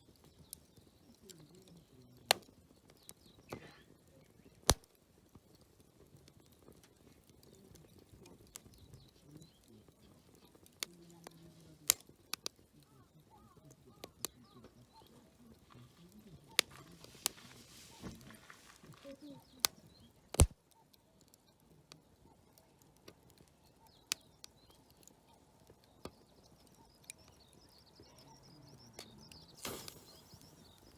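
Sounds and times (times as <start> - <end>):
campfire crackling and popping: 0.0 - 30.9
faint voices murmuring: 0.0 - 30.9.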